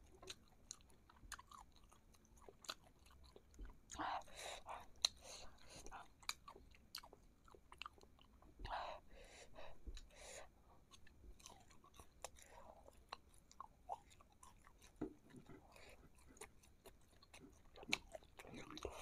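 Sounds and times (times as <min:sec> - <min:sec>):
close-miked chewing: 0:00.0 - 0:19.0.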